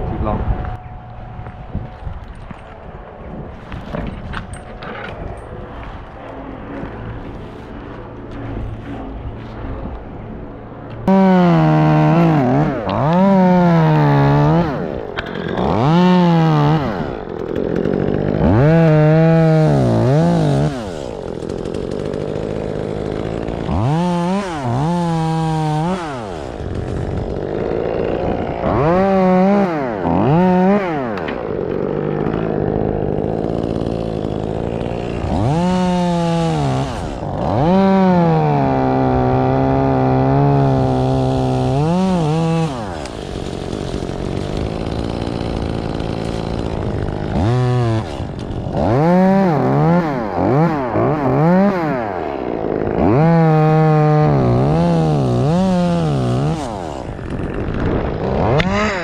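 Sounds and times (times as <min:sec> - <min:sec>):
chainsaw idling and revving: 0:00.7 - 0:59.0.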